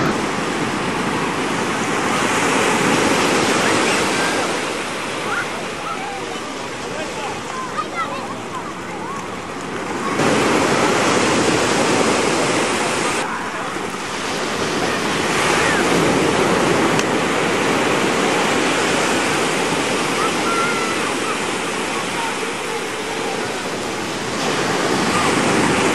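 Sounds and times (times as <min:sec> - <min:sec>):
surf breaking on beach: 0:00.0 - 0:25.9.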